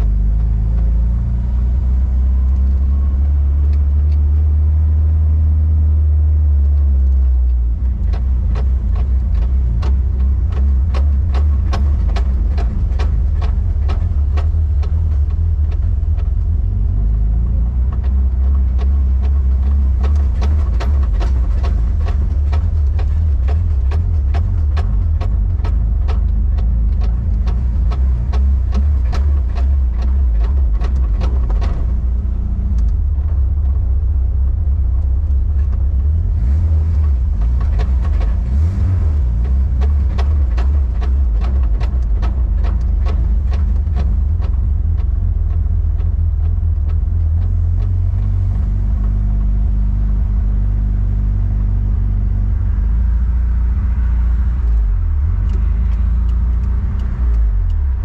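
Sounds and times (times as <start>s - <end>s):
engine low rumble: 0.0s - 58.0s.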